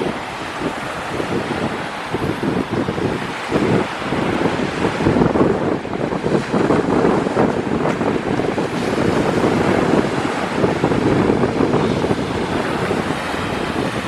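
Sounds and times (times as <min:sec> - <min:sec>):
surf breaking on shore: 0:00.0 - 0:14.0
wind buffeting microphone: 0:00.0 - 0:14.0.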